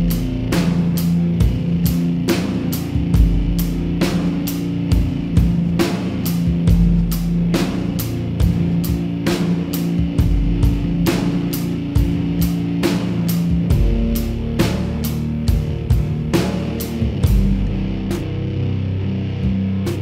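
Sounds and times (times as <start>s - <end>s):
drum kit: 0.0s - 20.0s
electric guitar: 0.0s - 20.0s.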